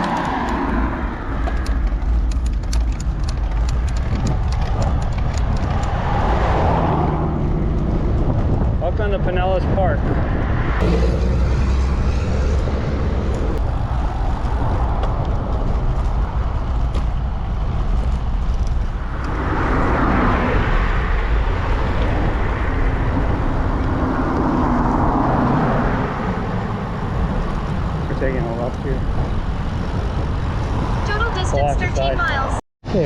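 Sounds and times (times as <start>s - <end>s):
road traffic passing: 0.0s - 32.6s
steady low rumble: 0.0s - 33.0s
vehicle engine hum: 0.0s - 33.0s.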